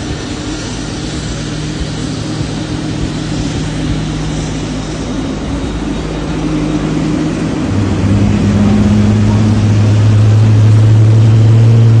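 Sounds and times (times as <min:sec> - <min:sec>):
jet engine starting up: 0:00.0 - 0:12.0.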